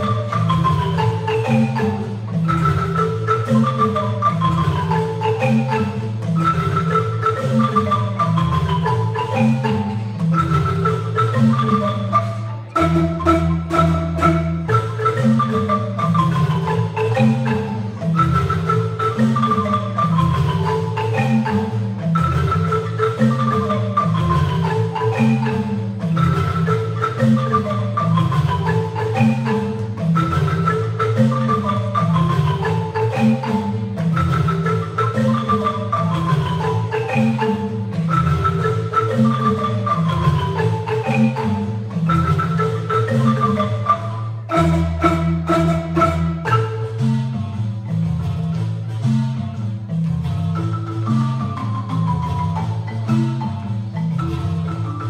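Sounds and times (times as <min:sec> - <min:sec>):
marimba ensemble playing: 0:00.0 - 0:55.0.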